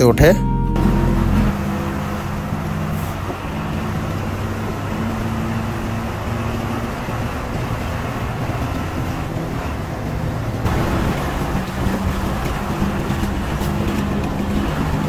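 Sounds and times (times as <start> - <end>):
coach engine hum: 0.0 - 15.0
road and tyre noise: 0.0 - 15.0.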